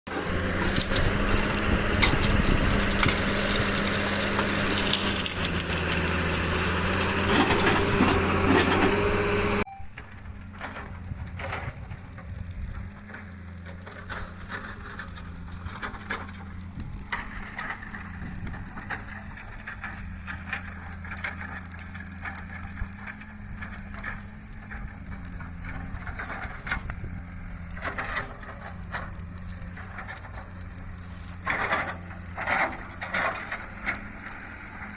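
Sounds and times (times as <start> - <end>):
wood cracking and splintering: 0.1 - 9.3, 10.2 - 34.9
excavator diesel engine: 0.1 - 34.9.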